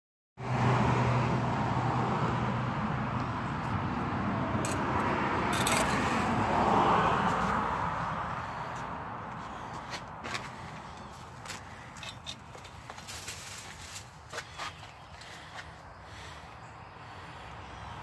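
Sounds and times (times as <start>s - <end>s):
rushing outdoor background noise: 0.4s - 18.0s.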